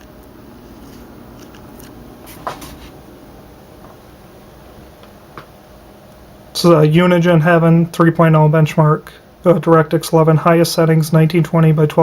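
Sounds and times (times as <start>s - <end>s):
computer fans whirring: 0.0s - 12.0s.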